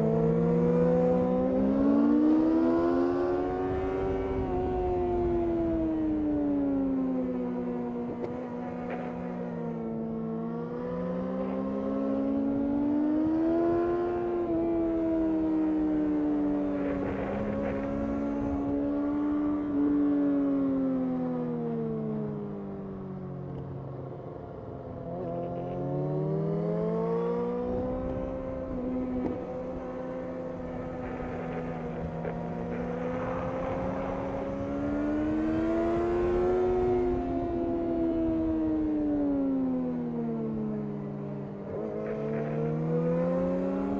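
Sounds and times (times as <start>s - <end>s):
motorcycle engine revving: 0.0s - 21.0s, 24.8s - 39.1s, 40.4s - 43.9s.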